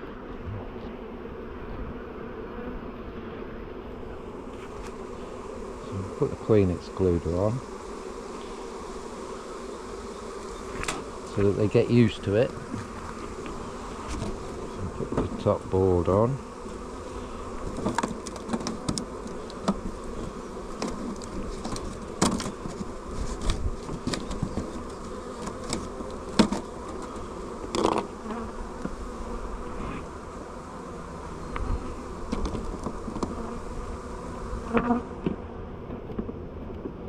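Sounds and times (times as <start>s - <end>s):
bees buzzing: 0.0s - 37.0s.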